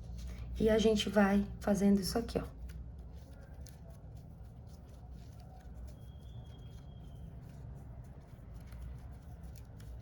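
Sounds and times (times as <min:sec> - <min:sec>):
low room hum: 0:00.0 - 0:10.0
ribbon rustling and clicking: 0:01.5 - 0:10.0.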